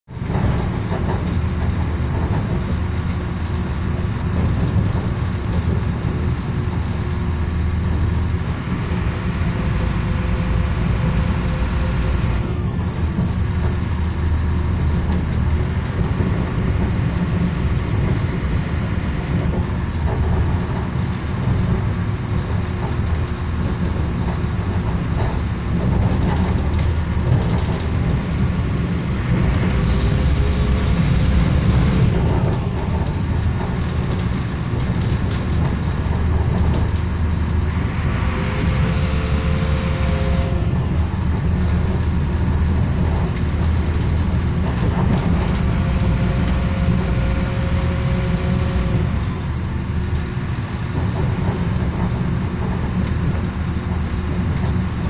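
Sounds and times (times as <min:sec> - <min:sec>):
train wheels rumbling on track: 0:00.0 - 0:55.0
train carriage rattling: 0:00.1 - 0:55.0.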